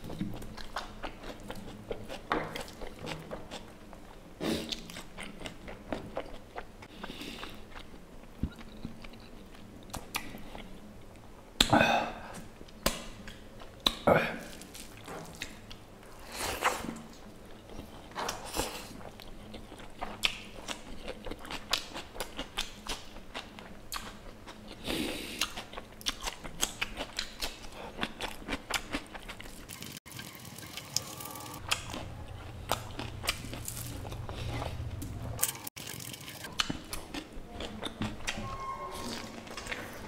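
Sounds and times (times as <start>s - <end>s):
wet chewing: 0.0s - 10.9s, 12.8s - 38.5s.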